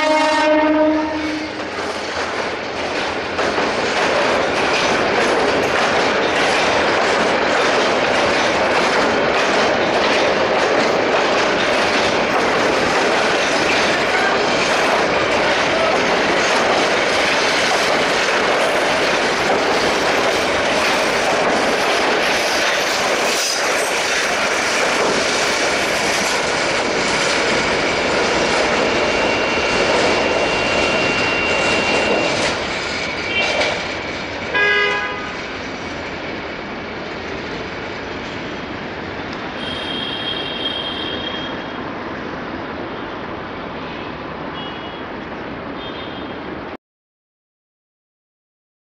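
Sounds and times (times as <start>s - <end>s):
train wheels clattering on rail: 0.0s - 42.0s.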